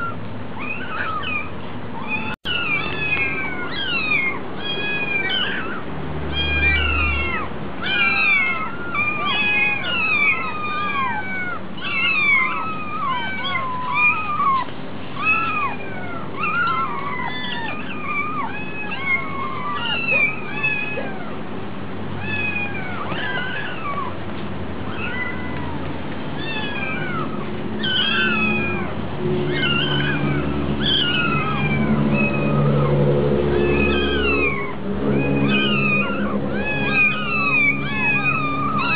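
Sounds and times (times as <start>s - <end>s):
kittens meowing: 0.0s - 38.9s
low steady hum: 0.0s - 38.9s.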